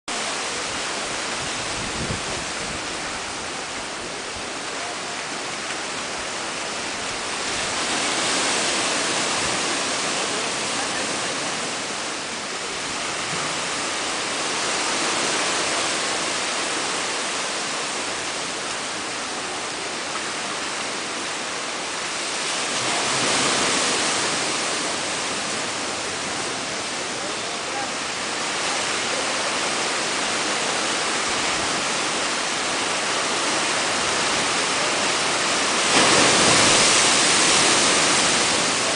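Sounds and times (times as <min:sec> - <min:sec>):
surf churning in rock gorge: 0:00.1 - 0:38.9.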